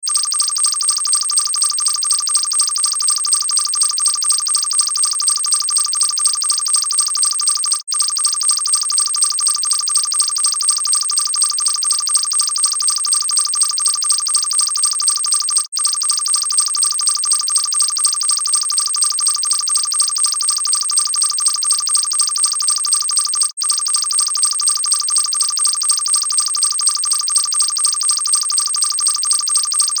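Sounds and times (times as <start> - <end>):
electronic alarm beeping fast: 0.0 - 30.0.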